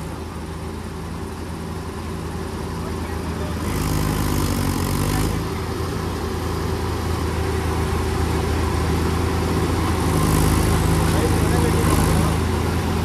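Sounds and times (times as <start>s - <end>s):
tractor diesel engines under load: 0.0s - 13.0s.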